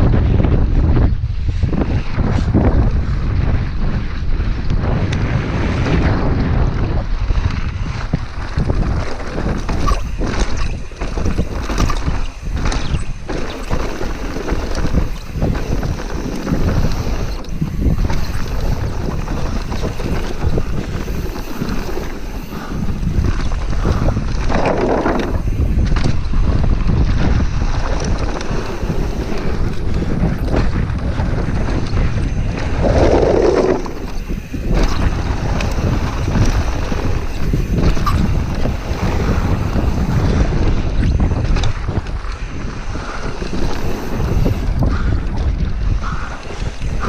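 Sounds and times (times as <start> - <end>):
wind buffeting microphone: 0.0 - 47.0
bike knocks and rattles: 7.3 - 47.0
tyres rumbling over dirt and rocks: 8.0 - 46.2.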